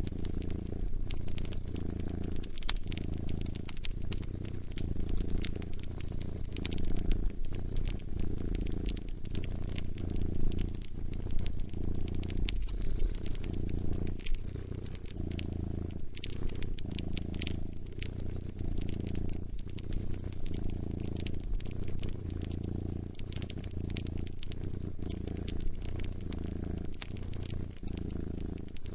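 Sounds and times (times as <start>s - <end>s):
cat purring: 0.0s - 28.9s
wood fire crackling and popping: 0.0s - 28.9s.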